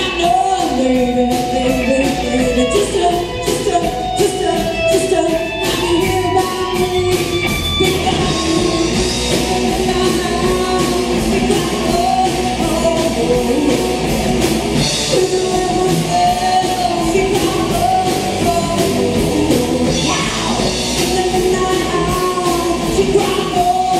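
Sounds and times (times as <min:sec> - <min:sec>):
live rock band playing: 0:00.0 - 0:23.9
person singing: 0:00.0 - 0:23.9
steady drum beat: 0:00.0 - 0:23.9.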